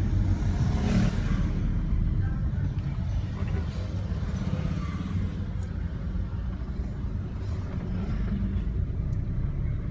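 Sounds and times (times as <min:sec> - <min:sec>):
car engine and tyre rumble: 0:00.0 - 0:09.9.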